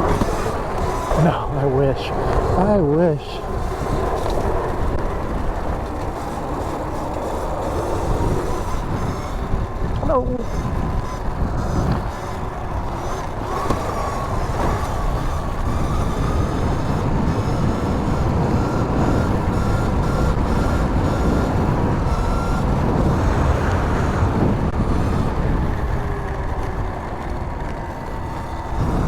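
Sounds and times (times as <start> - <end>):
electric motor whine: 0.0 - 29.0
wind on microphone: 0.0 - 29.0.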